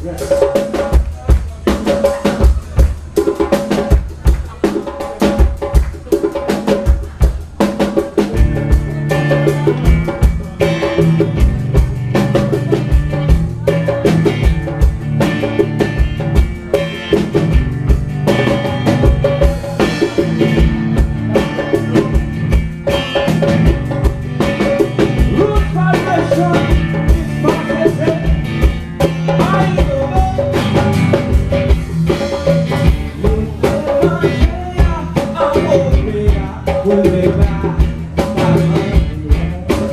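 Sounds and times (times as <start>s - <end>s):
bass guitar: 0.0s - 4.6s, 6.8s - 39.9s
drum kit steady beat: 0.0s - 39.9s.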